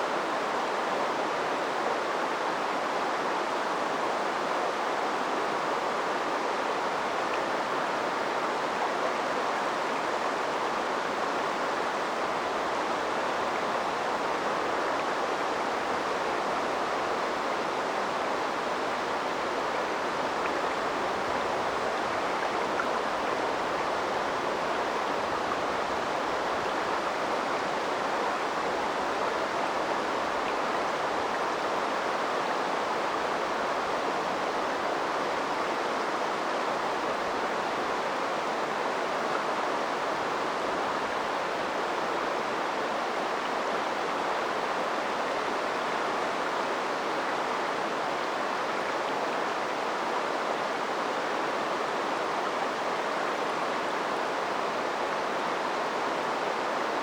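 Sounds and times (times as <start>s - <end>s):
river water babbling: 0.0s - 57.0s.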